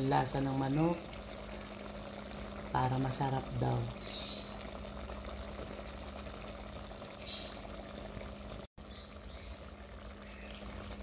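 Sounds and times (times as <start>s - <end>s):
pot bubbling simmer: 0.0s - 11.0s.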